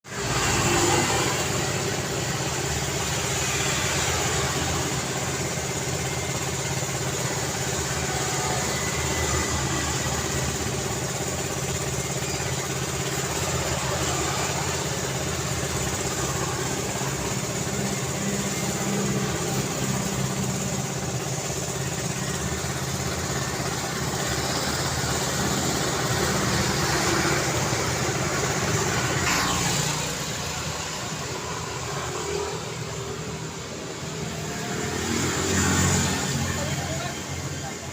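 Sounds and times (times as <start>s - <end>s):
highway traffic: 0.0s - 37.9s.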